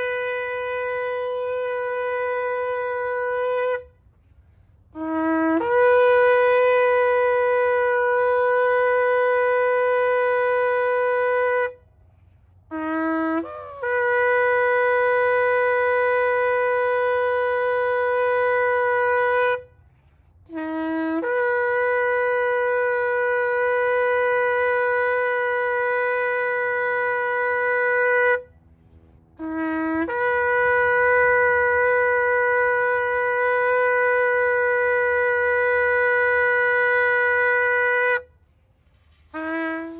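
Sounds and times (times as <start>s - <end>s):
horn blown in long blasts: 0.0s - 39.9s.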